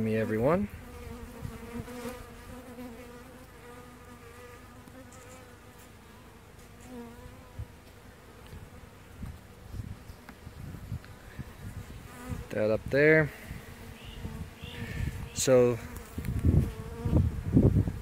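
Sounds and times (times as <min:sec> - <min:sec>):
bees buzzing: 0:00.2 - 0:18.0.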